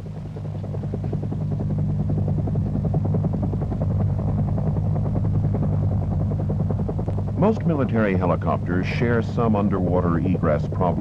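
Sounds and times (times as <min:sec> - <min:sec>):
helicopter engine drone: 0:00.0 - 0:11.0.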